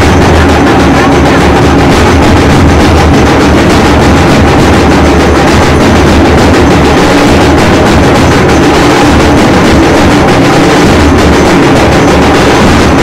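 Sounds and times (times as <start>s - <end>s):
low drum thumps: 0.0s - 13.0s.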